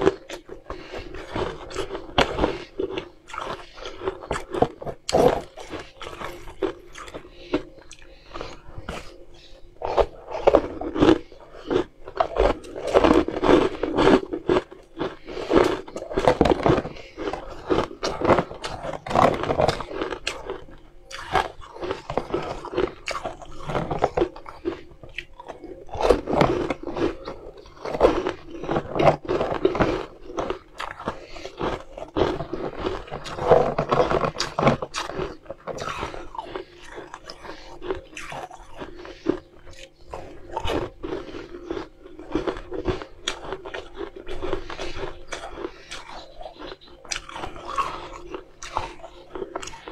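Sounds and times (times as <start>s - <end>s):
ice crunching in mouth: 0.0s - 49.9s.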